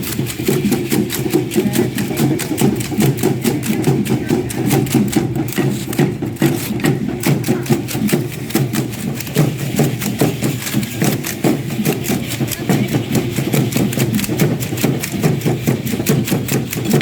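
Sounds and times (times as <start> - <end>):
rattles: 0.0 - 17.0.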